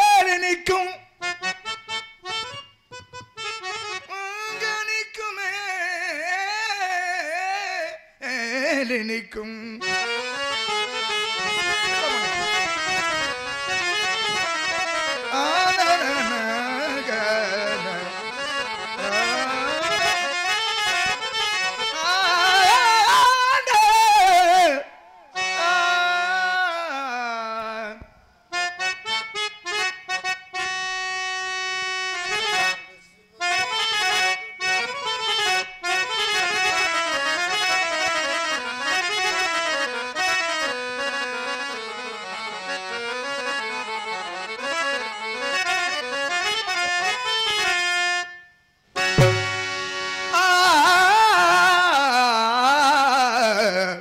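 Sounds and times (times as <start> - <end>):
harmonium reed melody: 0.0 - 54.0.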